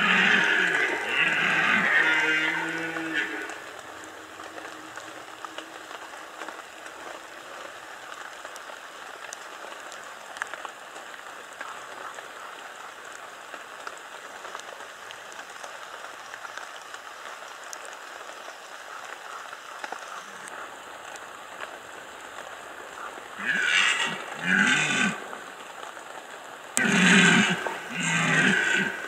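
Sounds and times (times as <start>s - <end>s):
faint water drips: 0.0s - 29.0s
light rain hissing: 0.0s - 29.0s.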